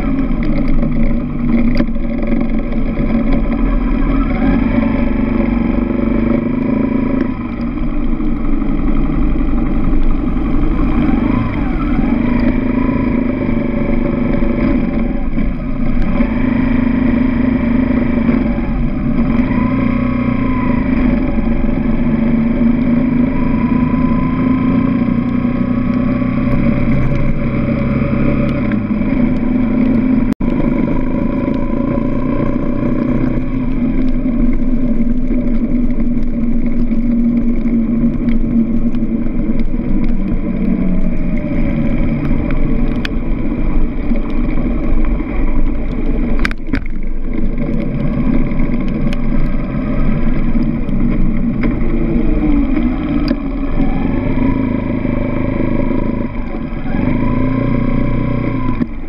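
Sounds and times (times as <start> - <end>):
dirt bike engine revving: 0.0 - 36.0, 47.5 - 59.0.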